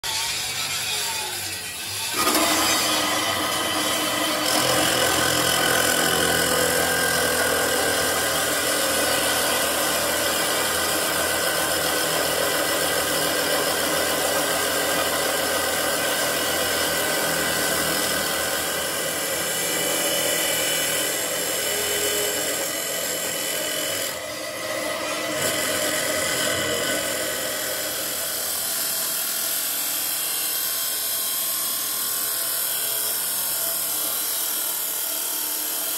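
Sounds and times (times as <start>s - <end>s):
abrasive saw grinding metal: 0.0s - 35.9s.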